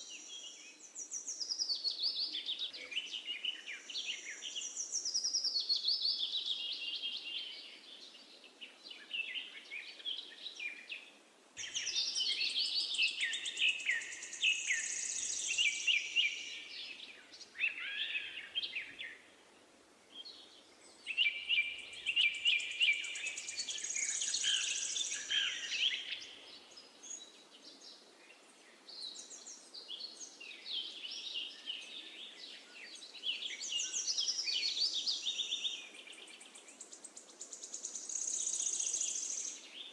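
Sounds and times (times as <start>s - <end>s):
birds chirping and trilling: 0.0s - 19.3s, 20.2s - 39.9s.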